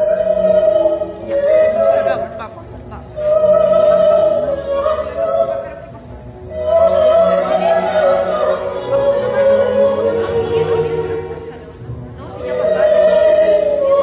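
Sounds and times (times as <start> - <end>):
choir singing held notes: 0.0 - 14.0.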